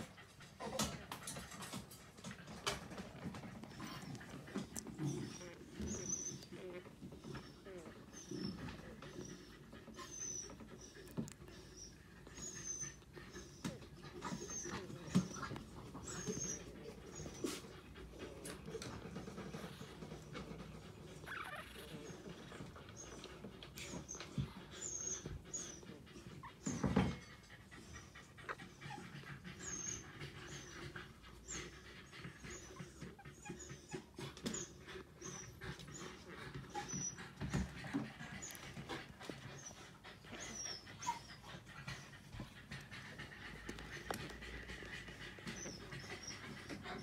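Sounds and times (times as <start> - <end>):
puppies breathing: 0.0 - 47.0
puppies squeaking: 0.4 - 47.0.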